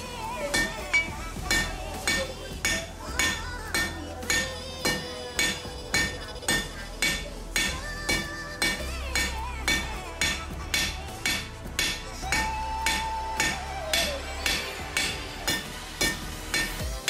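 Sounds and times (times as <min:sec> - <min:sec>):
background music: 0:00.0 - 0:17.0
hammer striking metal on anvil: 0:00.4 - 0:17.0.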